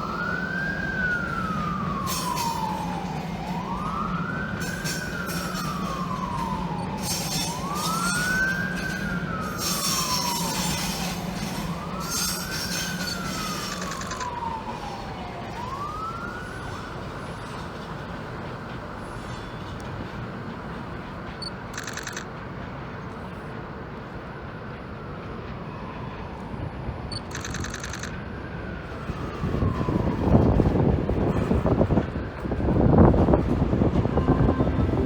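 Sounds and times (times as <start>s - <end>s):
emergency vehicle siren wailing: 0.0s - 22.3s, 23.3s - 35.0s.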